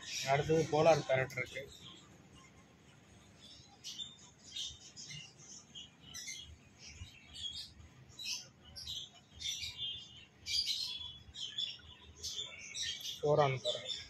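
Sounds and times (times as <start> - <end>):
small birds chirping and twittering: 0.0 - 14.0.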